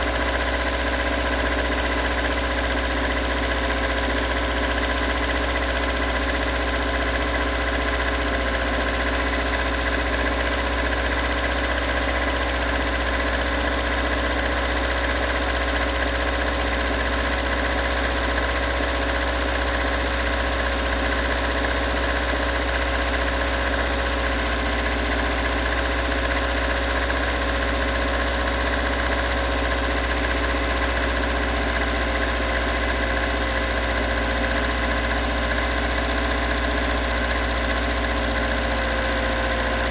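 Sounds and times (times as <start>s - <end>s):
car engine idling roughly: 0.0s - 39.9s
engine knocking: 0.0s - 39.9s.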